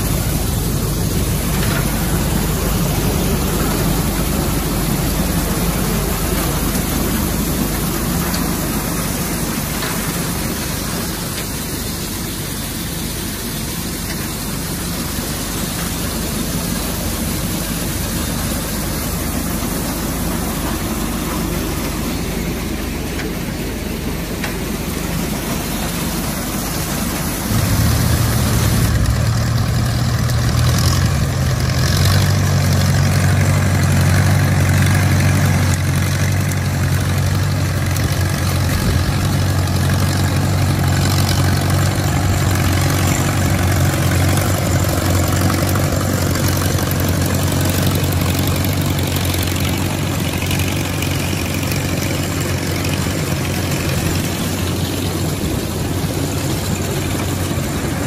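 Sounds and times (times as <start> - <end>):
farm machine humming: 0.0 - 58.0
tractor engine: 0.0 - 58.0.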